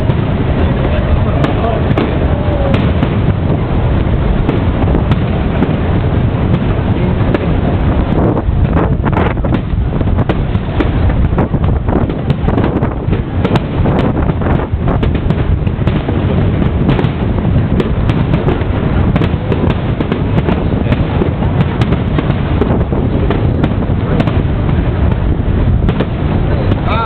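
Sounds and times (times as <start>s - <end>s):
fireworks cracks and pops: 0.0s - 27.0s
low rumble: 0.0s - 27.0s
wind buffeting microphone: 0.0s - 27.0s.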